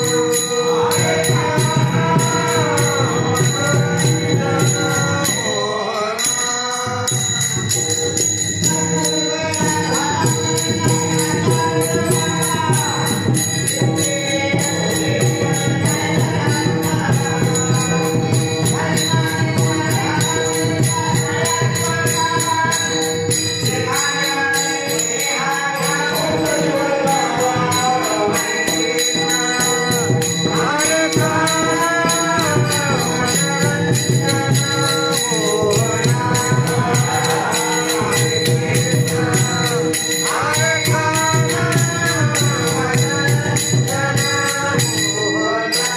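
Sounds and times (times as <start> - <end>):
hand cymbals struck rhythmically: 0.0 - 45.9
voices singing devotional melody: 0.0 - 45.9.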